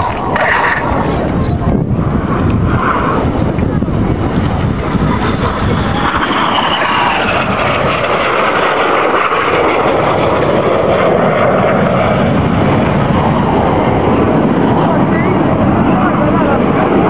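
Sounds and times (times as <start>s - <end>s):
jet aircraft flying past: 0.0s - 17.0s
jet engine whine: 0.0s - 17.0s.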